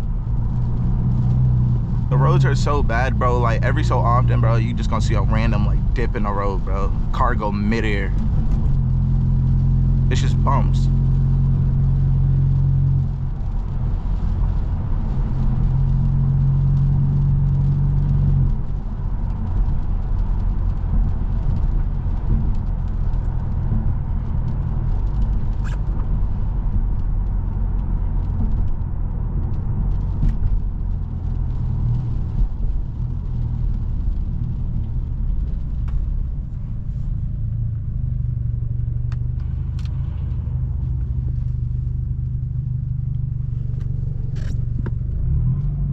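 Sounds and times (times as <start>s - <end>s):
car exhaust drone: 0.0s - 45.9s.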